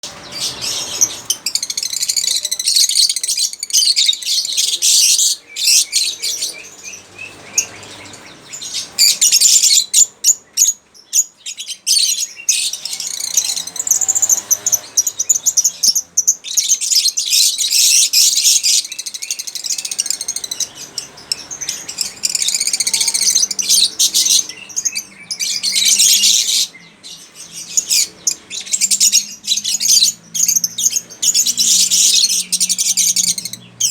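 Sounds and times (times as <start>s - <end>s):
bird chirping and twittering: 0.0s - 33.9s.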